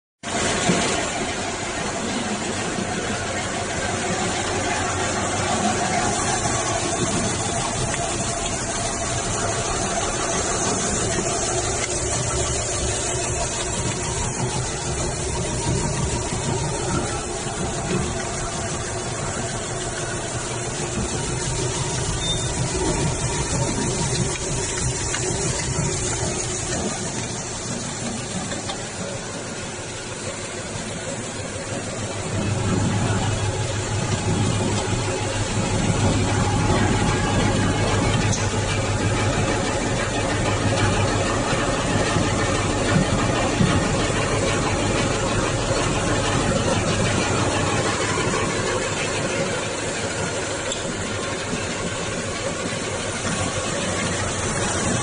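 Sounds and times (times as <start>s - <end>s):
pellet mixer running: 0.3s - 55.0s
low hum: 0.4s - 55.0s.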